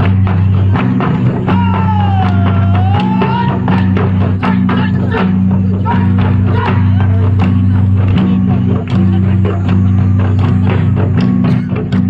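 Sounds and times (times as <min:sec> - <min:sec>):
drum strikes: 0:00.0 - 0:12.0
steady low drone: 0:00.0 - 0:12.0.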